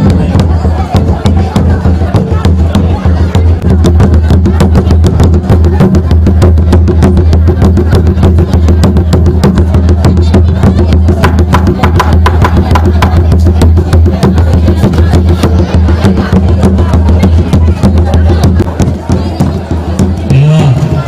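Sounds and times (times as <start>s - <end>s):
drums beaten with sticks: 0.0s - 21.0s.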